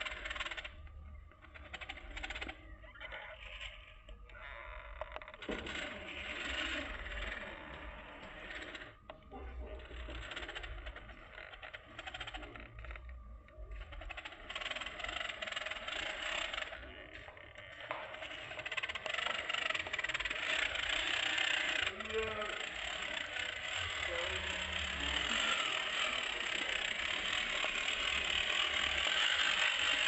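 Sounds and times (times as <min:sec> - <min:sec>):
toy car motor whirring: 0:00.0 - 0:30.0.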